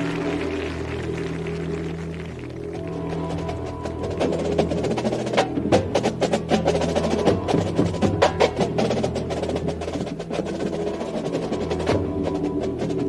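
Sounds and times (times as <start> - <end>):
marching band music: 0.0 - 13.0.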